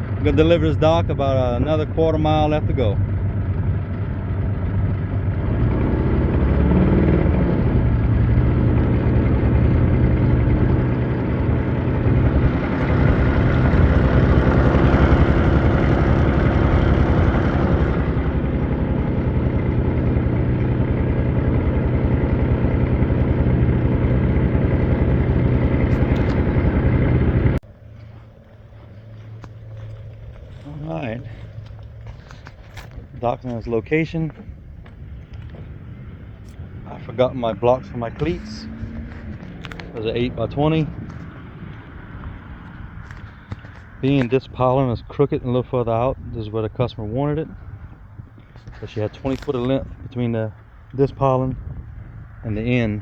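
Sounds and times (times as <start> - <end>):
boat motor running: 0.0 - 53.0.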